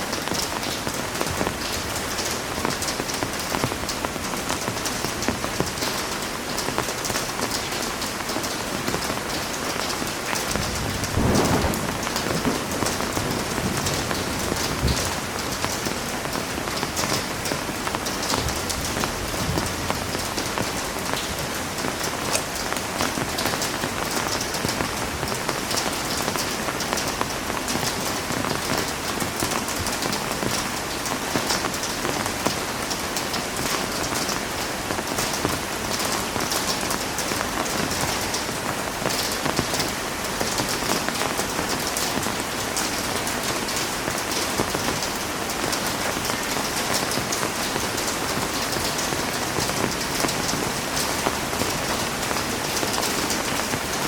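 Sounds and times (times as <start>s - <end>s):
heavy rain on hard surfaces: 0.0s - 54.0s.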